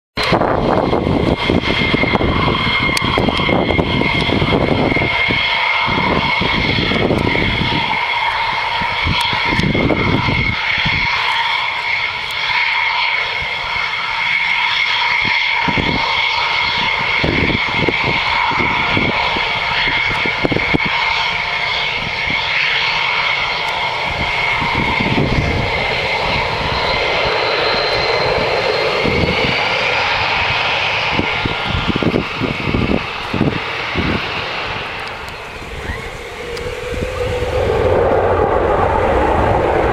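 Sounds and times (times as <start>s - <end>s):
low rumbles: 0.2s - 12.3s, 13.2s - 39.9s
high turbine whine: 0.2s - 39.9s
jet engine roar: 0.2s - 39.9s.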